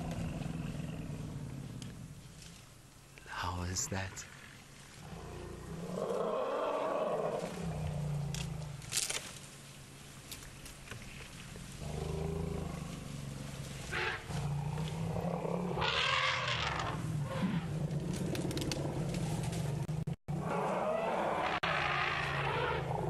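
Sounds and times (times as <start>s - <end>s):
elephants rumbling: 0.0s - 3.2s, 4.1s - 23.0s.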